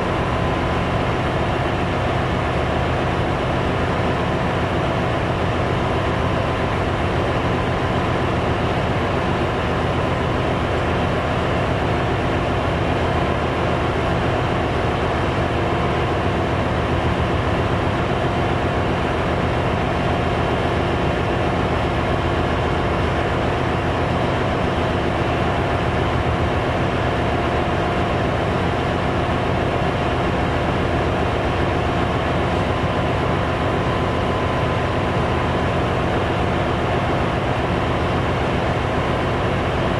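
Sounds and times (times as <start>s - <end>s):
auxiliary machinery running: 0.0s - 39.9s.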